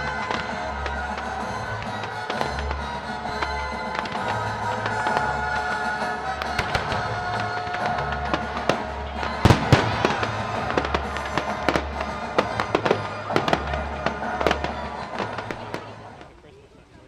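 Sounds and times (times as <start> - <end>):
fireworks bangs and crackles: 0.0 - 16.6
background music: 0.0 - 16.7.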